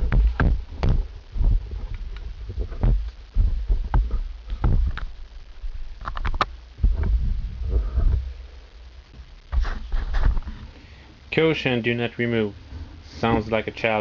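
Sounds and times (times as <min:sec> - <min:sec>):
low rumbling handling noise: 0:00.0 - 0:11.2.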